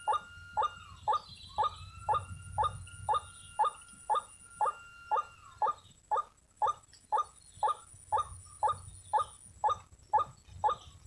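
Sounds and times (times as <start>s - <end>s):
bird calling harsh notes: 0.0s - 11.0s.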